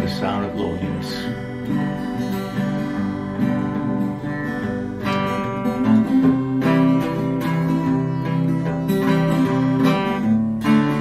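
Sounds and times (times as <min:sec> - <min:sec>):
acoustic guitar strummed: 0:00.0 - 0:11.0.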